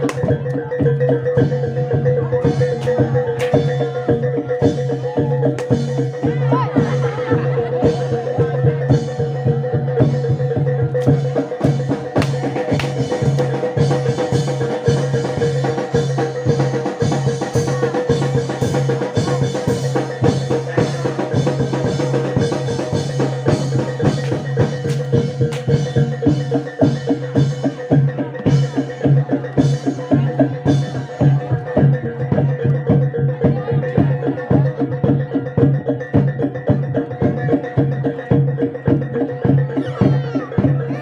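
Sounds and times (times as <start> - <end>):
fast dense drumming: 0.0 - 41.0
struck pitched percussion: 0.0 - 41.0.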